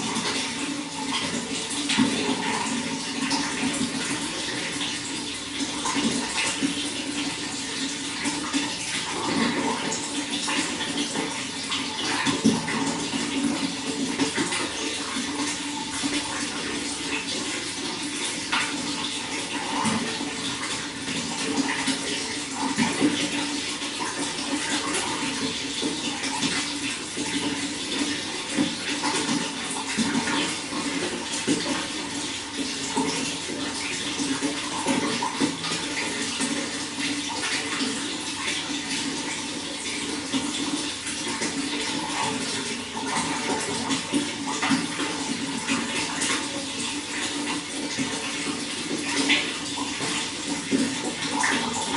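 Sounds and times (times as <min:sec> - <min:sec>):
water running and splashing: 0:00.0 - 0:51.9.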